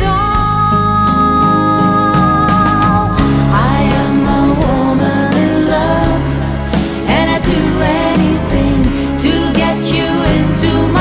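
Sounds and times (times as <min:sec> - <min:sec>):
pop song with vocals: 0:00.0 - 0:11.0.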